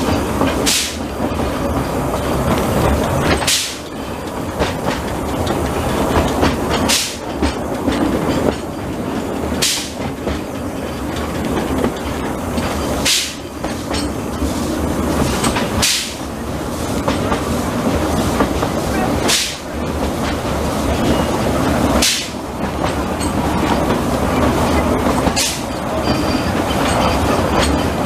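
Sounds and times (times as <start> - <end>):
train wheels rumbling on rails: 0.0 - 28.0
wheels clicking over rail joints: 0.0 - 28.0.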